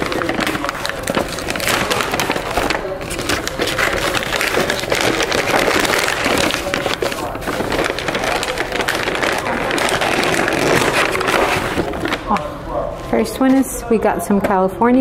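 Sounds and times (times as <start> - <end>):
paper bag rustling and crinkling: 0.0 - 13.4.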